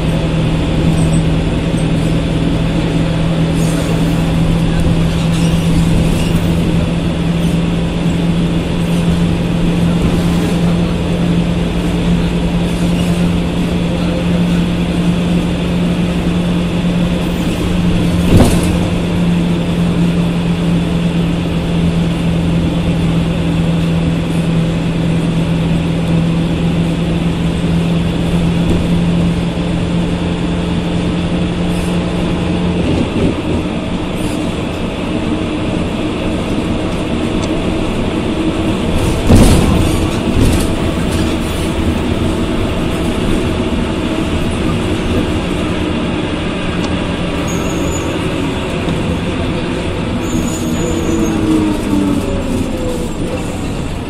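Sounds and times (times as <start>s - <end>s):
bus engine hum from inside: 0.0s - 54.0s.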